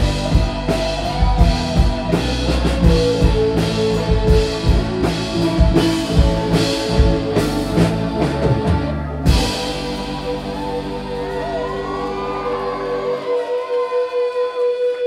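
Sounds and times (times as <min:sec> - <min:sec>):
drum kit beat: 0:00.0 - 0:13.2
electric guitar: 0:00.0 - 0:15.0.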